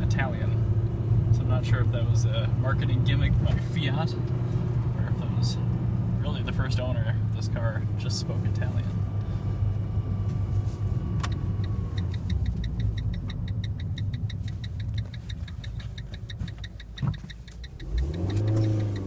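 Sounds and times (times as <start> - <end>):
car engine running: 0.0 - 19.0
turn signal ticking: 0.0 - 19.0.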